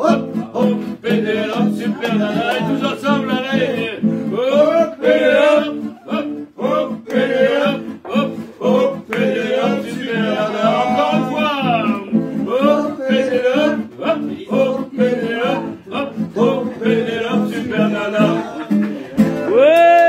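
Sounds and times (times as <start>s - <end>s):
man singing without words: 0.0s - 19.6s
strummed acoustic guitar: 0.0s - 19.6s.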